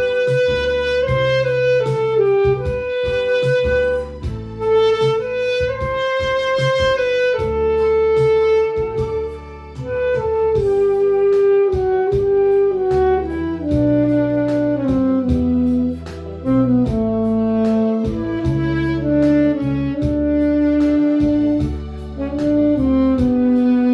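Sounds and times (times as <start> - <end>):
backing track with bass and beat: 0.0 - 23.9
saxophone melody: 0.0 - 23.9.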